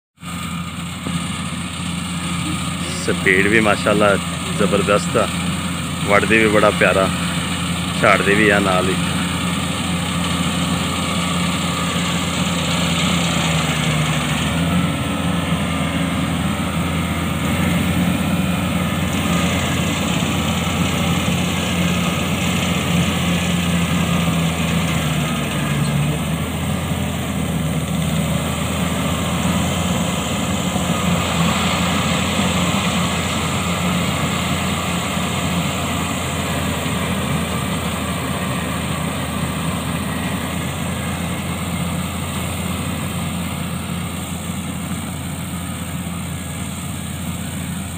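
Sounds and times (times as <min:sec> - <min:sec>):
harvester engine running: 0:00.2 - 0:47.9.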